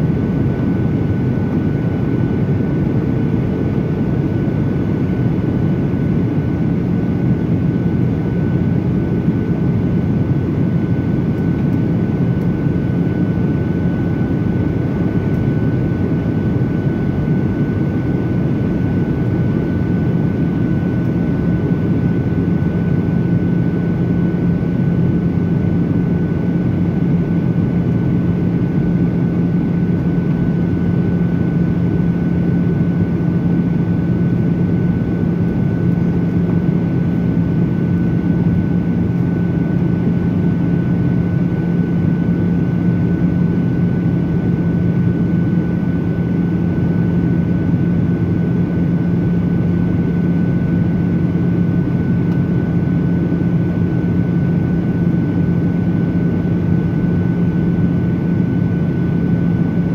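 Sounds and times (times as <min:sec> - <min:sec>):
turbofan engines droning: 0:00.0 - 0:59.9.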